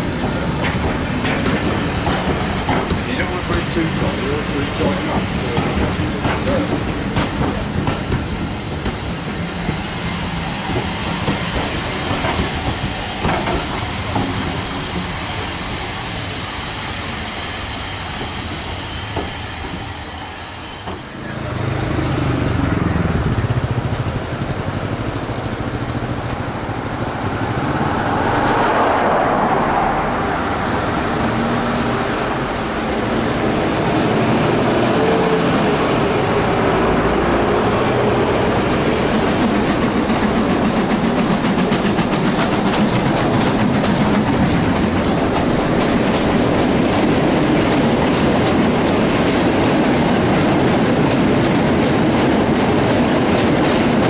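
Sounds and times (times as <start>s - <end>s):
train wheels clickety-clack: 0.0s - 20.2s, 20.8s - 21.7s, 22.6s - 29.6s, 33.1s - 54.0s
steam locomotive working steam: 0.0s - 54.0s.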